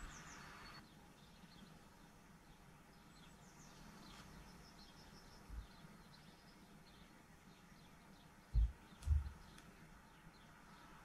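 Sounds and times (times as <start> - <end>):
small birds chirping: 0.0 - 11.0
soft hiss: 0.0 - 11.0.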